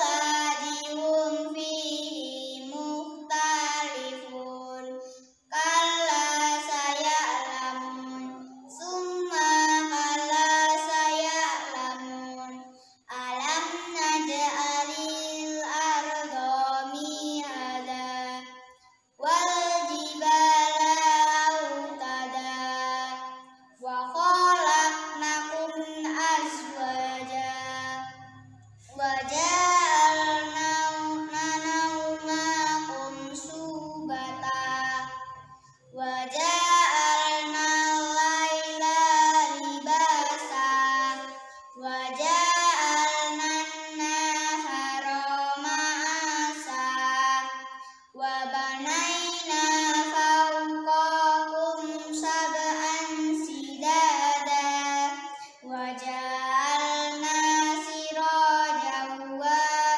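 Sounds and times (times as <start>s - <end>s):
girl chanting melodic recitation: 0.0s - 59.9s.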